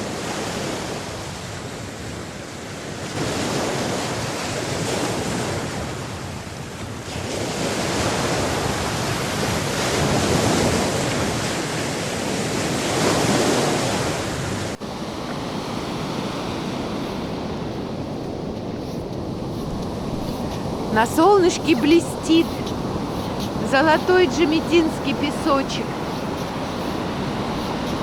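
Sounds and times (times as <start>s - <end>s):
waves breaking on sand: 0.0s - 28.0s.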